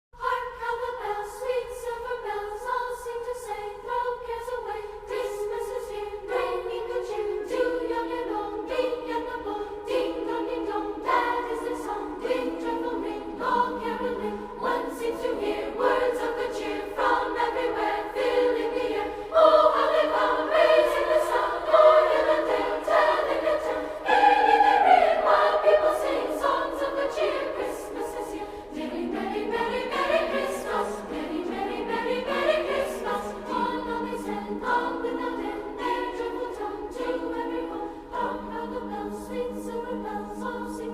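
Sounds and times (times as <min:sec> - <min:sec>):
choral singing: 0:00.2 - 0:40.9.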